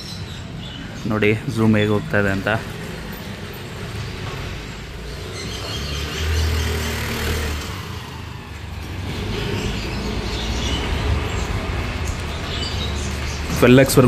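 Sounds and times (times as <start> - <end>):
vehicle engine rumble: 1.7 - 14.0.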